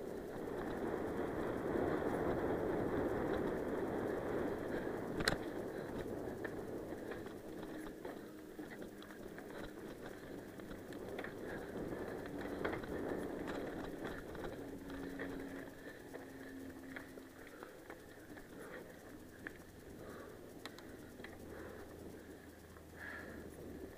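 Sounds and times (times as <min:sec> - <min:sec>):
bike rattling over stones: 0:00.0 - 0:23.9
bike tyres rolling on gravel: 0:00.0 - 0:23.9.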